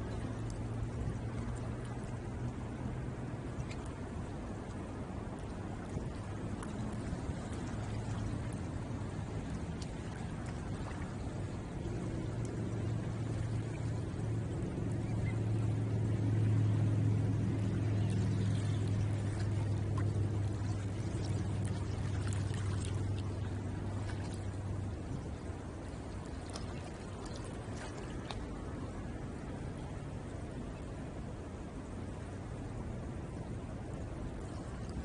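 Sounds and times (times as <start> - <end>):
low motor hum: 0.0 - 35.0
water washing along shoreline: 0.0 - 35.0.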